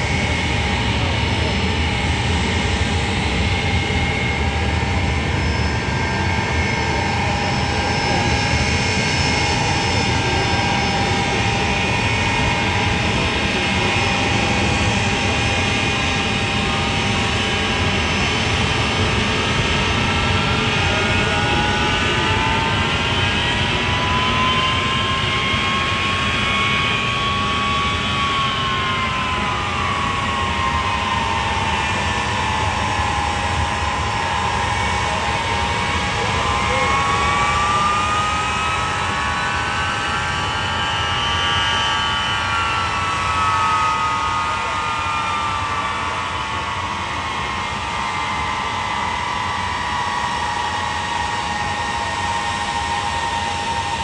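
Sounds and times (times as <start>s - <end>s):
jet engines roaring and whining: 0.0s - 54.0s.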